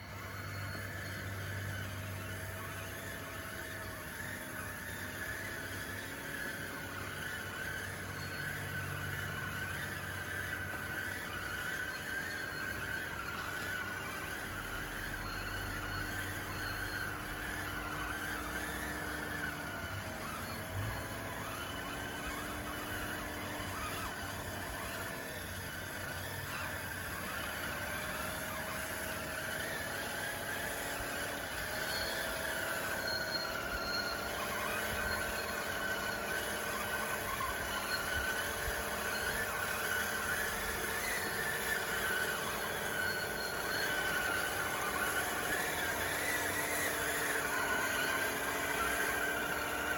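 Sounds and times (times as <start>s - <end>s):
electric motors whining: 0.0s - 49.9s.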